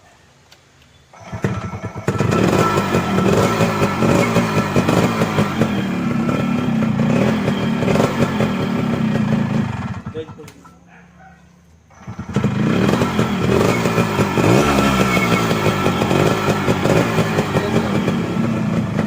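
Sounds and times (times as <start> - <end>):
two-stroke motorcycle engine: 1.1 - 10.9, 11.8 - 19.0.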